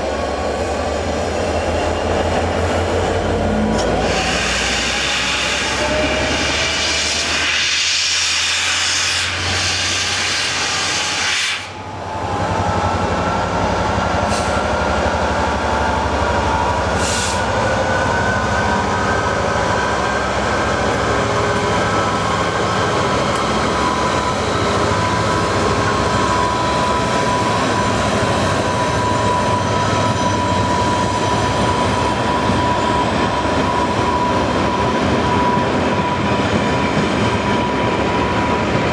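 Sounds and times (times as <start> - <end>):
train rail and wheel noise: 0.0 - 38.9.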